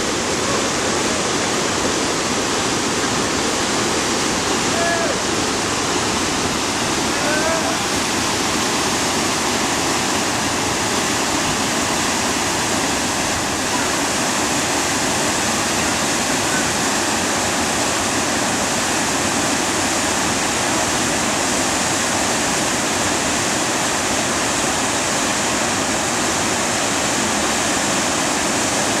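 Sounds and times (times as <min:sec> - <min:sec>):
water pouring over waterfall: 0:00.0 - 0:29.0.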